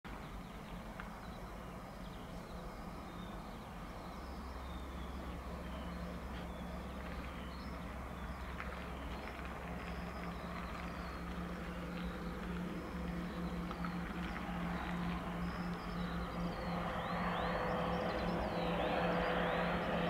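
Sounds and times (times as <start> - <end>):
birds chirping: 0.1 - 20.0
turboprop propeller drone: 0.1 - 20.0.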